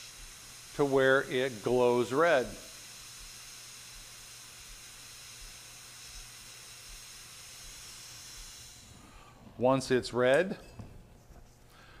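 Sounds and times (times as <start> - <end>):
gas torch hissing: 0.0 - 9.6.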